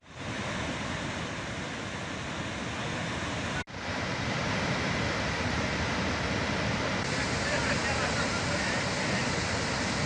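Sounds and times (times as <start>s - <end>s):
rushing floodwater: 0.0s - 10.0s.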